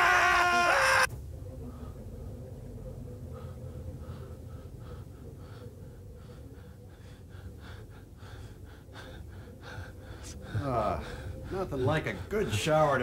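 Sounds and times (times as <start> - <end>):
low steady hum: 0.0 - 13.0
faint soft repeating sounds: 1.1 - 13.0.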